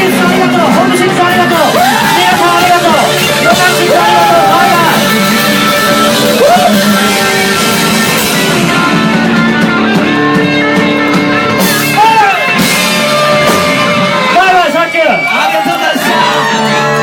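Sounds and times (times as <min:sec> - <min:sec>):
electric guitars: 0:00.0 - 0:17.0
live rock band playing: 0:00.0 - 0:17.0.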